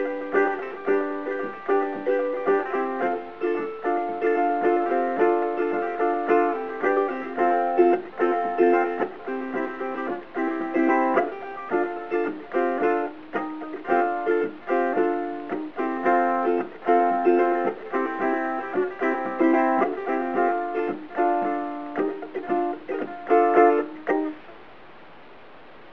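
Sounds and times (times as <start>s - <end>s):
ukulele strumming: 0.0s - 24.9s.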